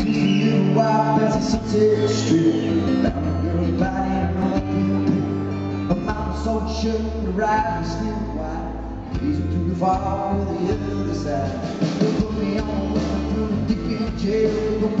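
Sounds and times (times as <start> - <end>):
drum kit: 0.0 - 6.5, 9.2 - 15.0
electric bass: 0.0 - 15.0
man singing: 0.0 - 15.0
strummed acoustic guitar: 0.0 - 15.0.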